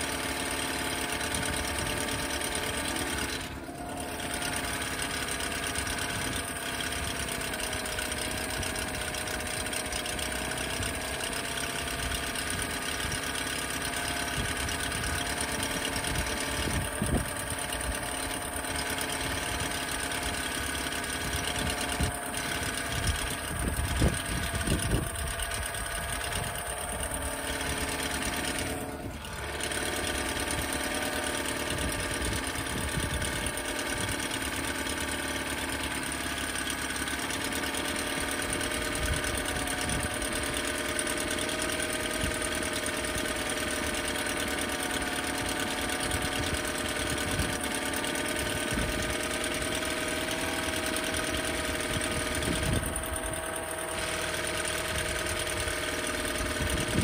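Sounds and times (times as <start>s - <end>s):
outboard motor idling: 0.0s - 57.0s.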